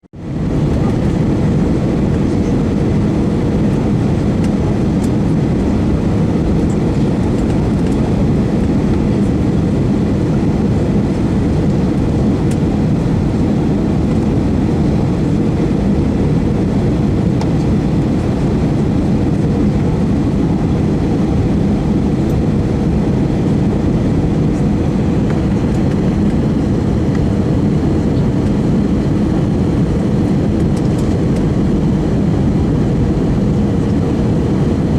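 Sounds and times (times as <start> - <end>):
jet engine drone in cabin: 0.2 - 34.9.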